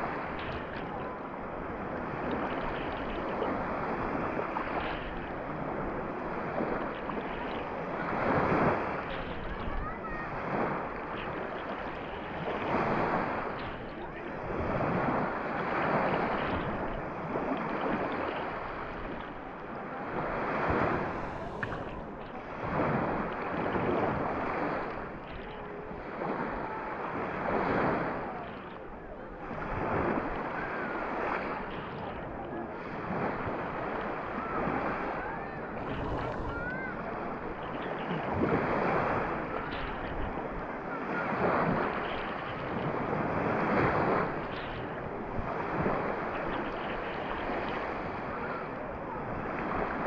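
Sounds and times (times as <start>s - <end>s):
small waves breaking on sand: 0.0s - 50.0s.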